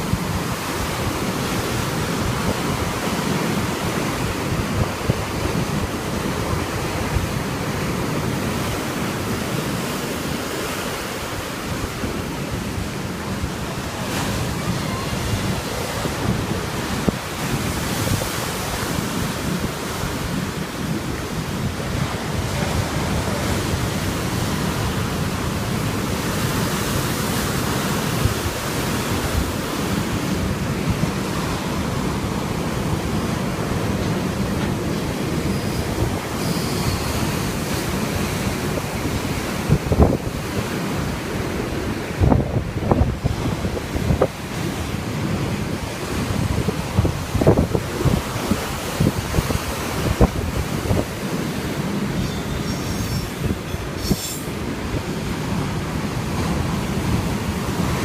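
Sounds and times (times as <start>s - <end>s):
waves washing onto shore: 0.0s - 58.0s
wind buffeting microphone: 0.0s - 58.0s.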